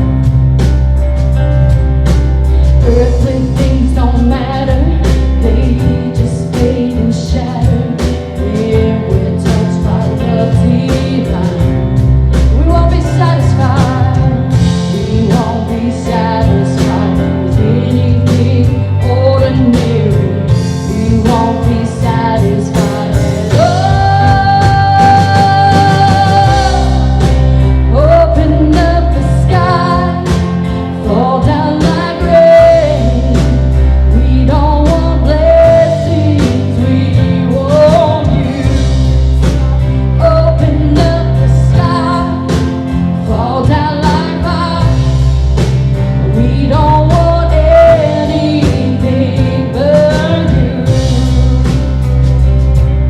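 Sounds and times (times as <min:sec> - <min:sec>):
worship band playing: 0:00.0 - 0:53.0
person singing: 0:02.6 - 0:52.9.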